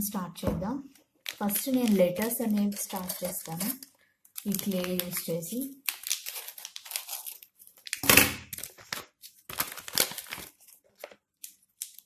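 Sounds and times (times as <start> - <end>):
plastic packaging crinkling: 1.2 - 12.0.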